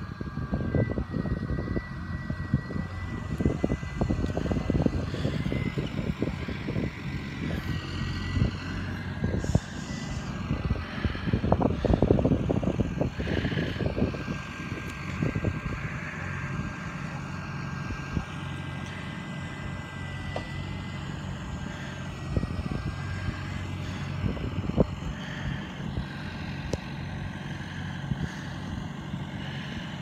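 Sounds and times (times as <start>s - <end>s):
steady high whine: 0.0s - 30.0s
tractor diesel engine running: 0.0s - 30.0s.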